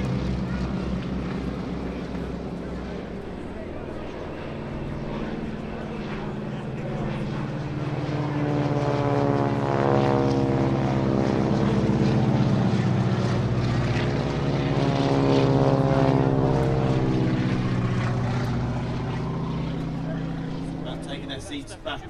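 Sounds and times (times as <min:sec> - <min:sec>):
biplane engines droning past: 0:00.0 - 0:22.0.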